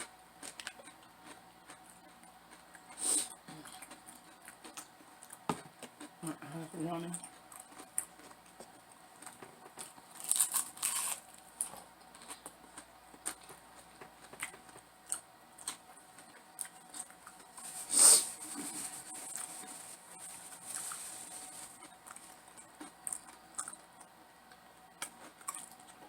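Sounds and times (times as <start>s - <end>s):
crunching food: 0.0s - 6.3s, 7.1s - 26.0s
soft chewing: 0.0s - 26.0s.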